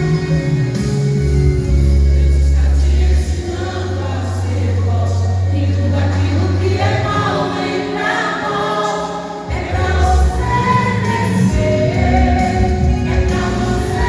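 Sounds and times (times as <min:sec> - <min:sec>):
bass accompaniment: 0:00.0 - 0:07.7, 0:09.5 - 0:14.0
group singing a gospel hymn: 0:00.0 - 0:14.0.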